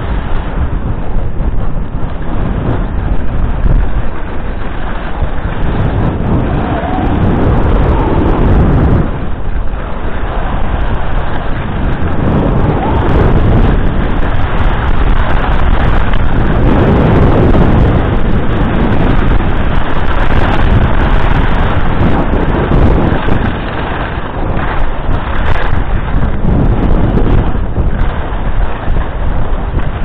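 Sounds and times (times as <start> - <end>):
skis scraping on hard snow: 0.0 - 30.0
wind rushing over microphone: 0.0 - 30.0.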